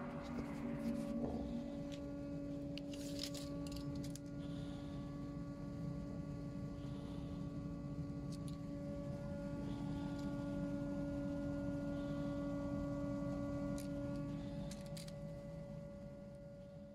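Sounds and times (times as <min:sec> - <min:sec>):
steady hum: 0:00.0 - 0:16.9.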